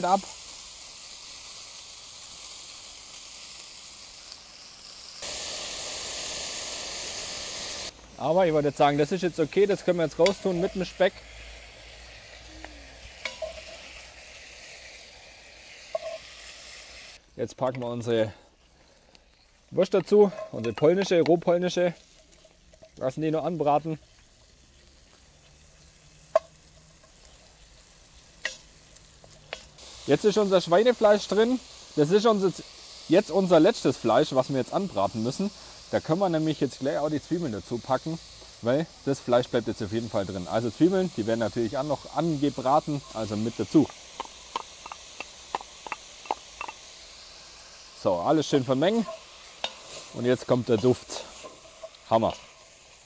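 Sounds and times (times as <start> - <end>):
meat sizzling in a pot: 0.0 - 53.0.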